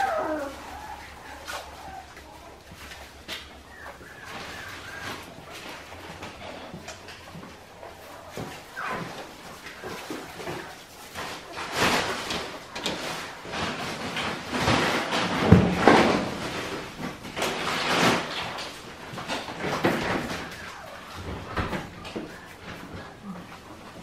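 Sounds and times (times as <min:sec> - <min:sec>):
puppies eating dry food: 0:00.0 - 0:24.0
puppies rustling in bedding: 0:00.0 - 0:24.0.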